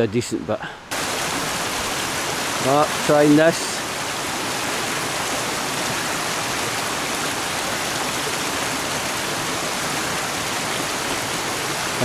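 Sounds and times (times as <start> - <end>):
stream rushing over boulders: 0.2 - 12.0.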